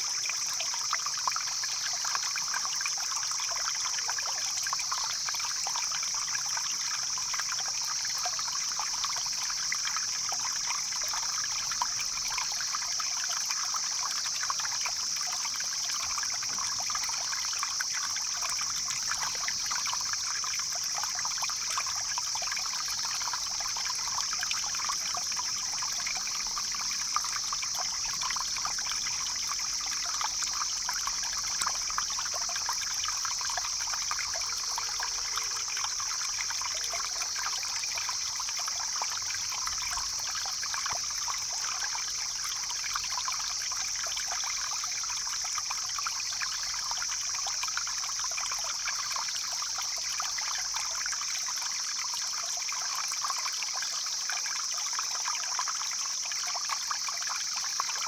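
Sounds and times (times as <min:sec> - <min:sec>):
stream flowing: 0:00.0 - 0:58.0
water trickling and splashing: 0:00.0 - 0:58.0.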